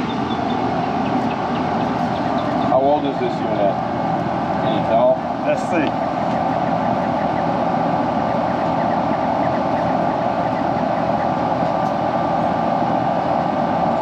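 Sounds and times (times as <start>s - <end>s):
air conditioner unit running: 0.0s - 14.0s.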